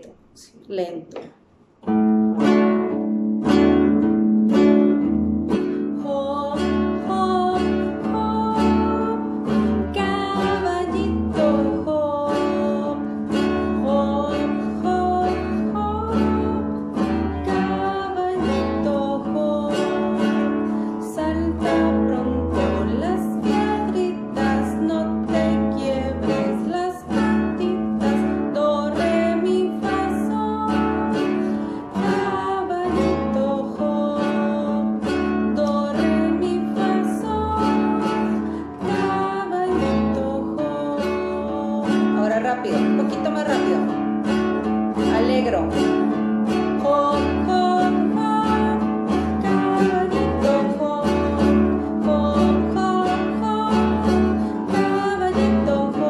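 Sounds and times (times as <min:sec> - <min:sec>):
strummed acoustic guitar: 0:01.2 - 0:56.0
woman singing a children's song: 0:05.9 - 0:56.0.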